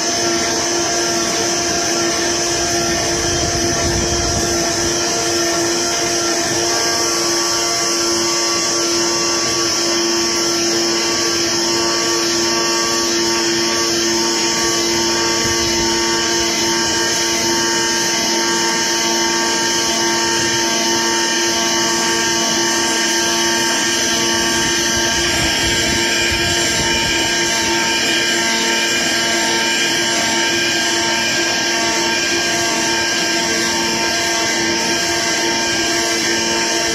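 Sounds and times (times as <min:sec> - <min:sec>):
cutting plotter humming: 0:00.0 - 0:36.9.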